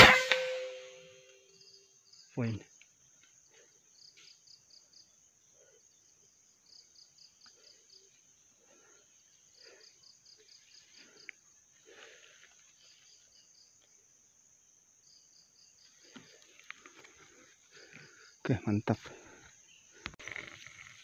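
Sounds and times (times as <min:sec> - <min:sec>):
insect chirping trill: 0:00.0 - 0:21.0
insects buzzing: 0:00.0 - 0:21.0.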